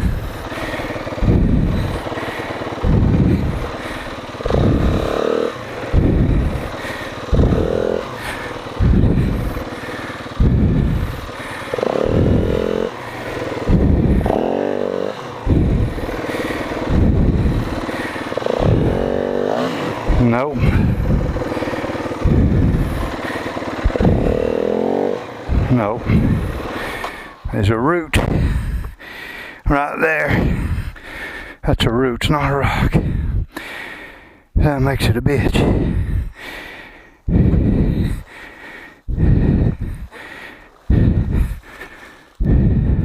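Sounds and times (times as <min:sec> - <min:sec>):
dirt bike engine revving: 0:00.0 - 0:31.5, 0:35.4 - 0:43.0.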